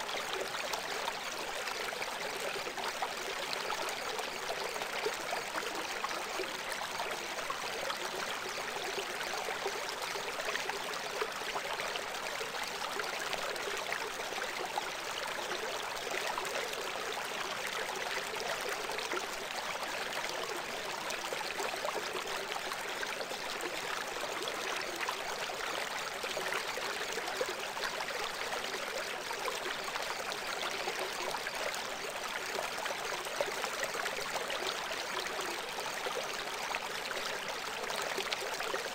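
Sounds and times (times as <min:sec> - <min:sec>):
rushing stream water: 0:00.0 - 0:38.9.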